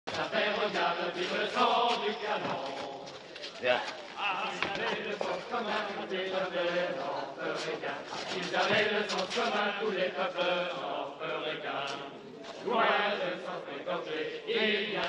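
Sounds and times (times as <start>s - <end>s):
men singing together: 0.1s - 3.1s, 4.2s - 15.0s.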